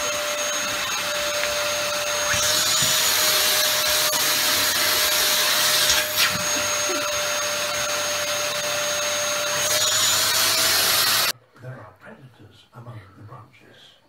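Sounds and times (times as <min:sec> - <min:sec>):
vacuum cleaner running: 0:00.0 - 0:11.3.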